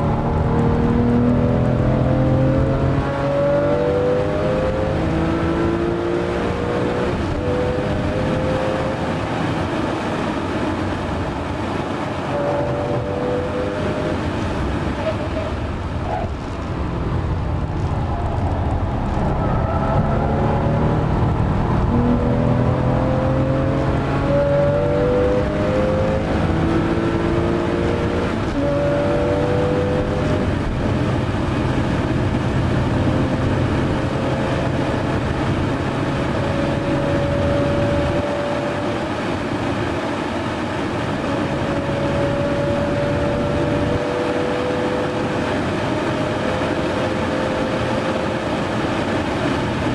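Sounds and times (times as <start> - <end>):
car engine revving through upshifts: 0.0 - 16.4, 17.8 - 49.9.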